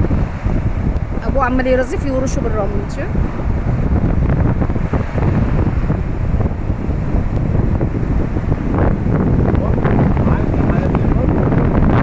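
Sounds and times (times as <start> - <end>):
sea surf washing: 0.0 - 12.0
wind buffeting microphone: 0.0 - 12.0.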